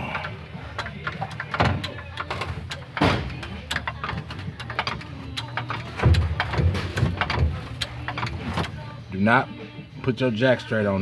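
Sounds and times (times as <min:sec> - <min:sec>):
metallic clicks and clunks: 0:00.0 - 0:09.0.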